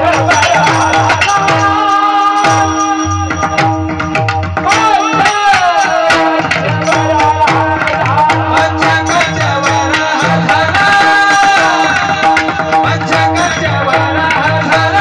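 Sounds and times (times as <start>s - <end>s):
man singing devotional melody: 0.0s - 15.0s.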